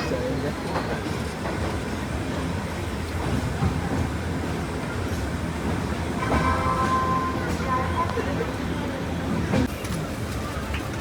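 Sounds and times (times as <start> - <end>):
train wheels rumbling: 0.6 - 11.0.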